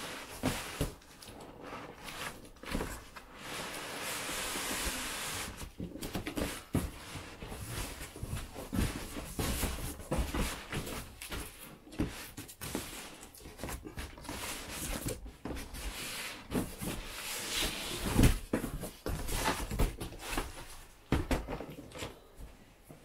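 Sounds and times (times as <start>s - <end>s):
cardboard scraping and rubbing: 0.1s - 20.8s.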